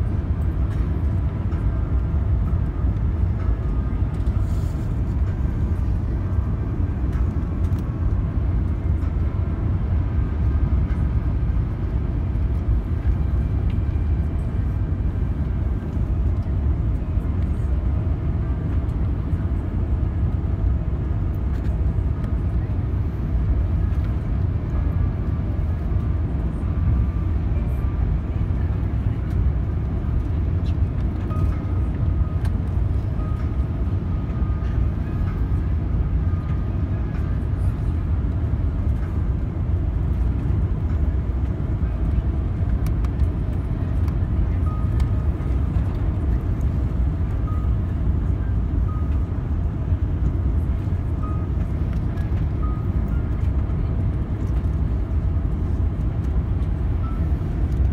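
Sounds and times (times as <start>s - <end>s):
aircraft cabin engine rumble: 0.0s - 57.9s
faint whining tones: 0.0s - 57.9s.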